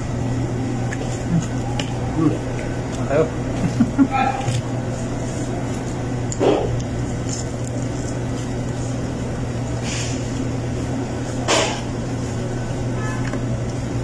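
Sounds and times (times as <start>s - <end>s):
air conditioning hum: 0.0s - 14.0s
crunchy chewing of chicken: 0.0s - 14.0s.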